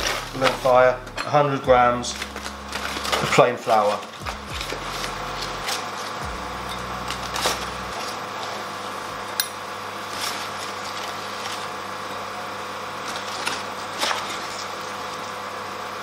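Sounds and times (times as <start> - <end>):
paper bag rustling: 0.0 - 9.2, 9.9 - 15.3.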